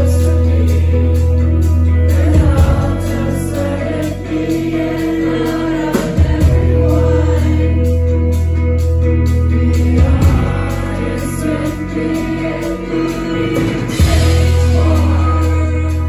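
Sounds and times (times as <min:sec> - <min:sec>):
heavy held bass: 0:00.0 - 0:16.0
person singing: 0:00.0 - 0:16.0
rock band playing: 0:00.0 - 0:16.0.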